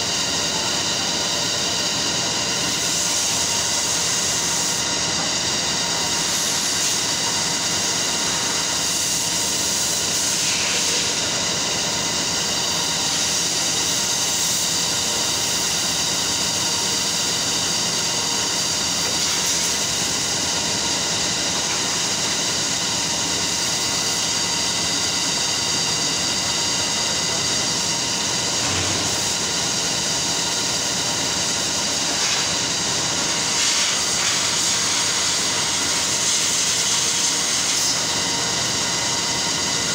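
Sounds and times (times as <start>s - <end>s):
mill machinery hissing and whining: 0.0s - 39.9s.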